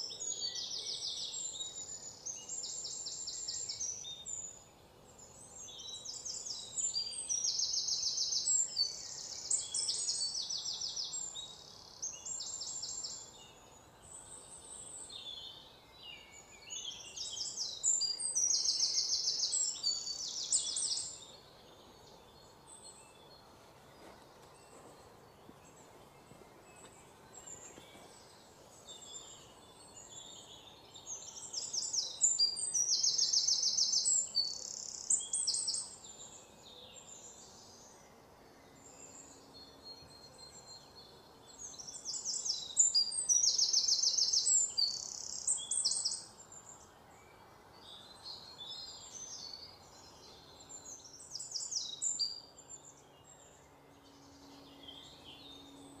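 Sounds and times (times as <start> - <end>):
faint steady hiss: 0.0 - 56.0
songbird singing trills: 0.0 - 56.0.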